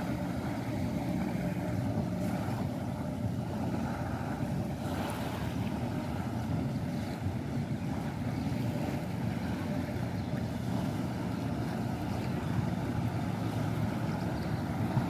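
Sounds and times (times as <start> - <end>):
jet ski engine drone: 0.0 - 15.0
wind buffeting microphone: 0.0 - 15.0.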